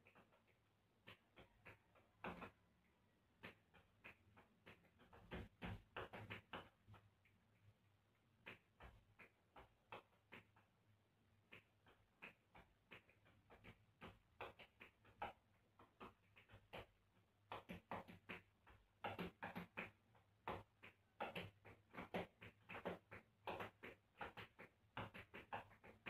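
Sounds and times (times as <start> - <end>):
tap shoes on tile floor: 0.0 - 2.7, 3.4 - 7.3, 8.3 - 10.8, 11.4 - 26.0.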